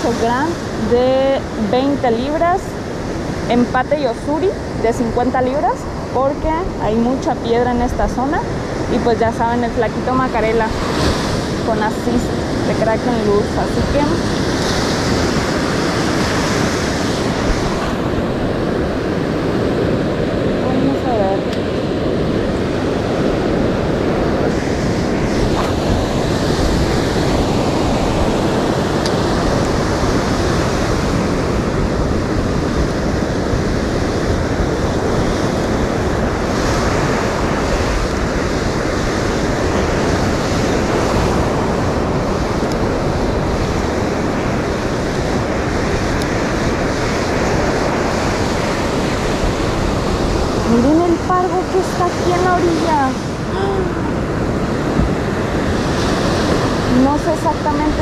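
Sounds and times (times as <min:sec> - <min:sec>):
ocean surf breaking on beach: 0:00.0 - 0:58.0
wind buffeting microphone: 0:00.0 - 0:58.0.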